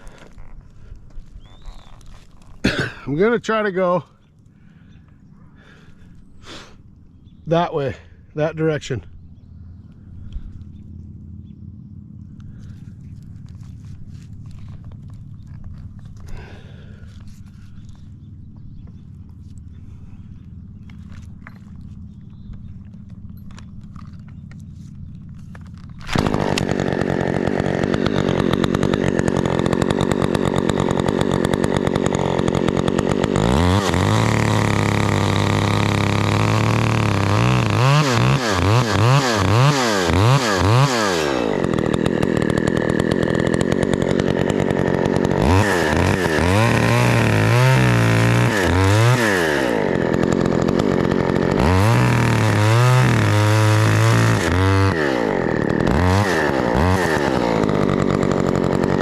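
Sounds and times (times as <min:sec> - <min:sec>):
chainsaw revving: 0:00.0 - 0:09.2, 0:09.8 - 0:59.0.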